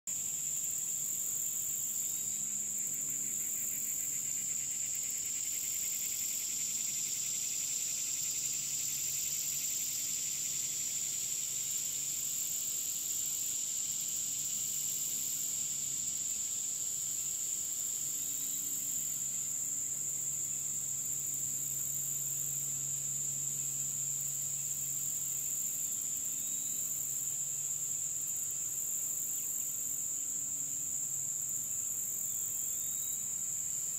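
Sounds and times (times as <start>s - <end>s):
insect pulsing buzz: 0.1s - 33.9s
insects trilling: 0.1s - 33.9s.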